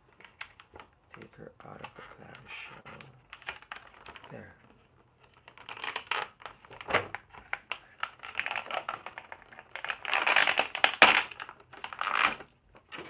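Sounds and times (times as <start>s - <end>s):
plastic bag crinkling: 0.1s - 12.6s.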